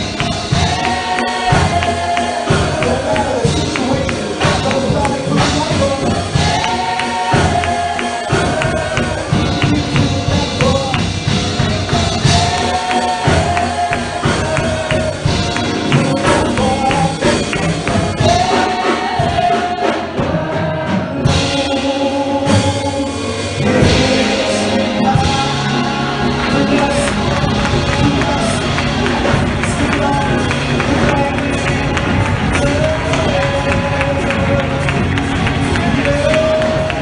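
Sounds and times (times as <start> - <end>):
choir and congregation singing: 0.0 - 37.0
drums: 0.0 - 37.0
live band: 0.0 - 37.0.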